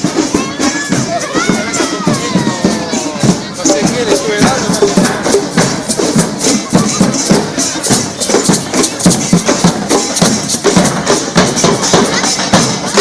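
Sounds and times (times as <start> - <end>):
crowd voices: 0.0 - 13.0
hand percussion fast beat: 0.0 - 13.0
shakers rattling: 0.0 - 13.0.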